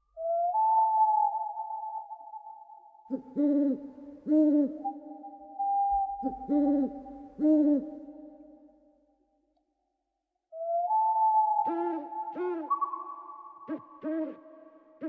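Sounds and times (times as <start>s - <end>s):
owl hooting: 0.0s - 8.6s, 10.6s - 15.0s.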